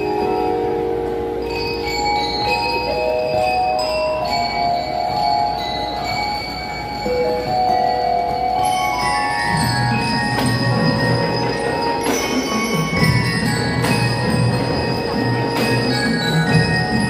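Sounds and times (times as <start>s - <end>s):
bell lyre melody: 0.0s - 17.0s.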